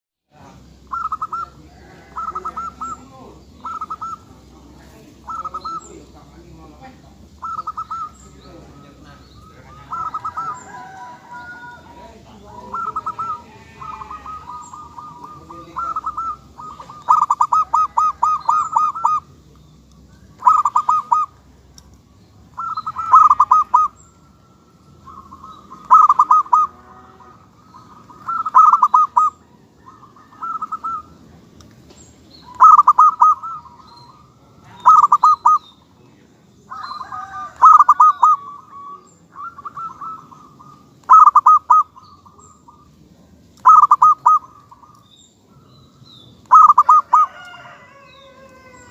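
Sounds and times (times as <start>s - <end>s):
dove cooing: 0.5s - 19.5s, 20.2s - 21.7s, 22.4s - 31.3s, 32.4s - 35.8s, 36.7s - 43.0s, 43.6s - 45.7s, 46.4s - 48.9s.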